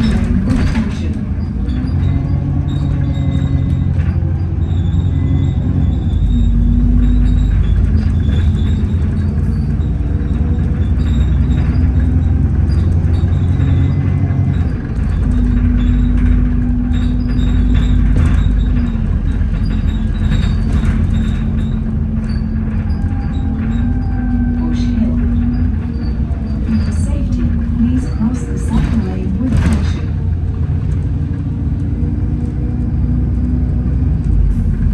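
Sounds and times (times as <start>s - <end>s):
bus engine drone and whine: 0.0s - 34.9s
rattles: 0.0s - 34.9s.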